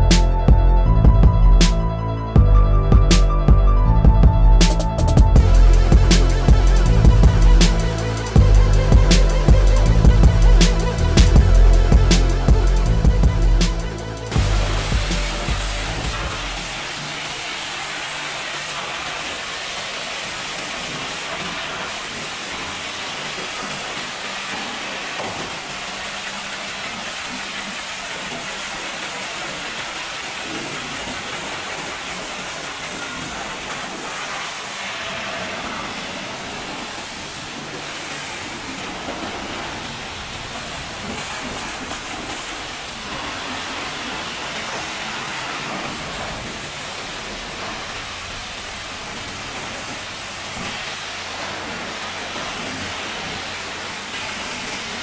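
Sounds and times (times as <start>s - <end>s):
pressure washer spraying wood: 4.6s - 55.0s
water splashing and running off: 4.6s - 55.0s.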